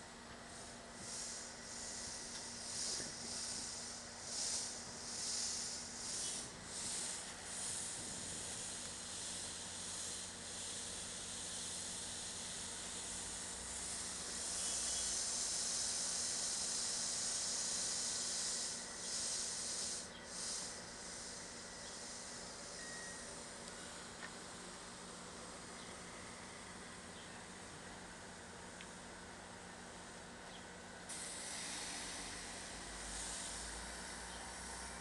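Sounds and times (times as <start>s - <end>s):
compressed air hissing: 0.0s - 24.1s, 31.0s - 35.0s
faint steady hum: 0.0s - 35.0s.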